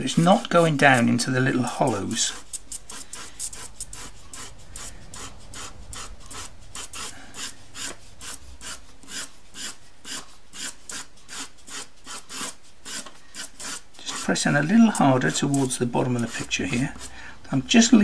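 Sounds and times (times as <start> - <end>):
pastel scratching on paper: 0.1 - 17.1.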